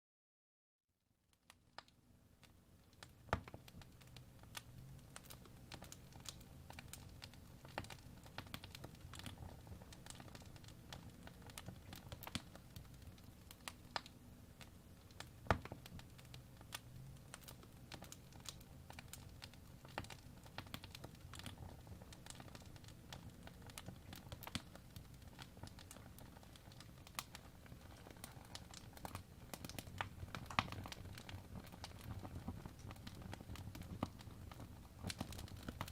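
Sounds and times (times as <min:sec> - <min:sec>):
logs crackling and popping: 0:01.4 - 0:35.9
low rumble of flames: 0:03.0 - 0:35.9.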